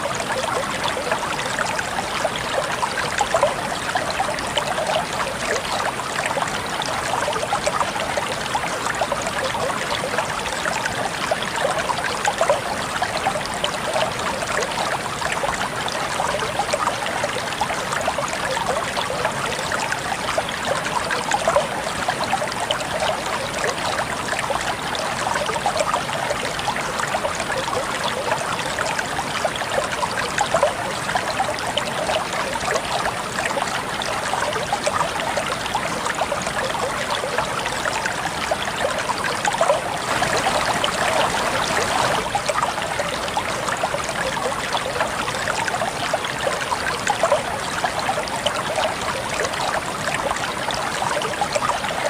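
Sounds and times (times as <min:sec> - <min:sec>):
stream water splashing: 0:00.0 - 0:52.0.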